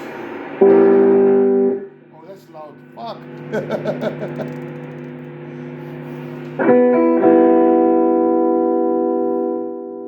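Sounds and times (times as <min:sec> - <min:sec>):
overdriven electric guitar chord: 0:00.6 - 0:02.0, 0:02.8 - 0:10.0.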